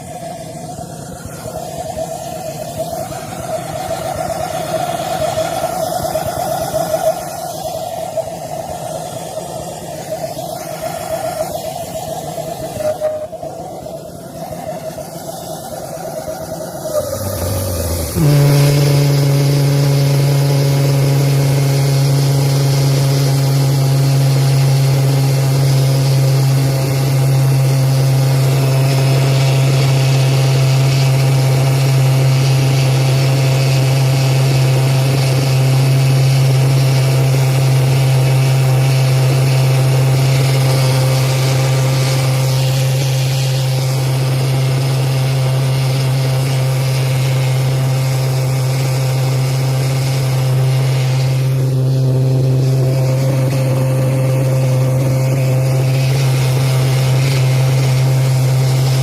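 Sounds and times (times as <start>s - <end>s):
pulse jet engine drone: 0.0s - 59.0s.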